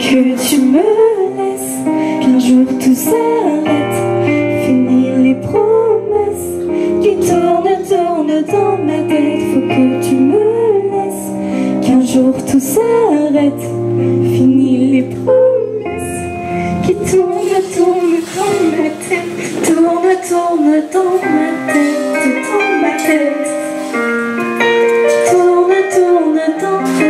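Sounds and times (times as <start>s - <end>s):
instrumental backing music: 0.0s - 27.0s
women singing pop song: 0.0s - 27.0s.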